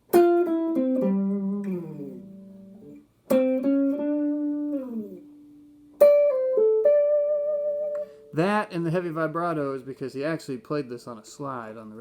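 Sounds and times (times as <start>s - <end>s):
guitar picked notes: 0.0s - 10.0s.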